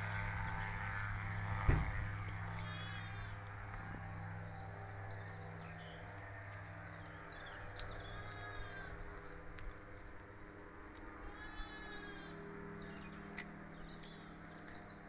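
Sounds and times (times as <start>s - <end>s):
low hum: 0.0s - 15.0s
small birds singing: 0.0s - 15.0s.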